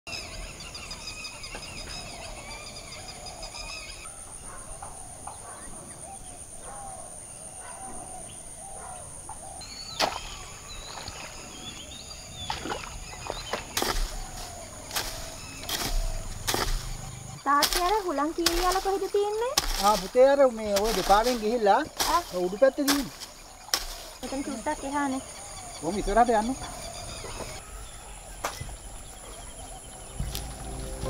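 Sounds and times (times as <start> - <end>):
birds calling and chirping: 0.1 - 31.0
insect drone: 0.1 - 31.0.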